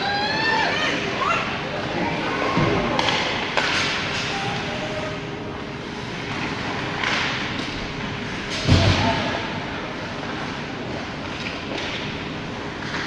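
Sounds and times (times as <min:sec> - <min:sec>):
ice rink noise: 0:00.0 - 0:13.0.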